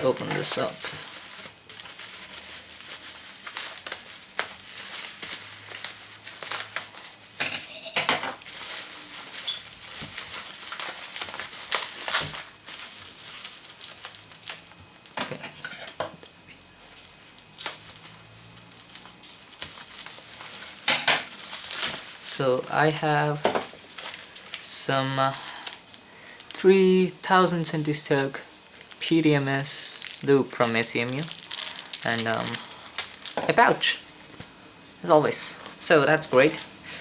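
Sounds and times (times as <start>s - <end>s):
plastic packaging crinkling: 0.0s - 37.0s.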